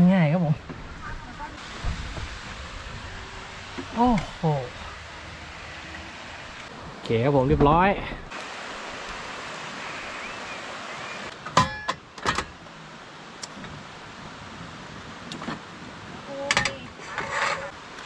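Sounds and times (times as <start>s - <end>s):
stream water rushing: 0.7s - 18.0s.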